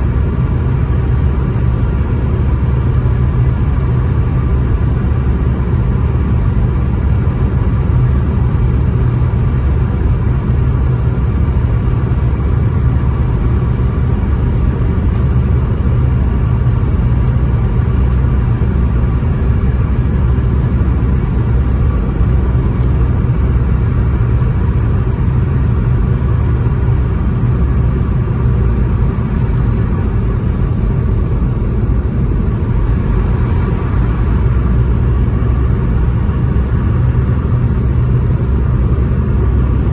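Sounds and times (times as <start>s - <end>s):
airliner cabin engine rumble: 0.0s - 39.9s
faint steady whine: 0.0s - 39.9s.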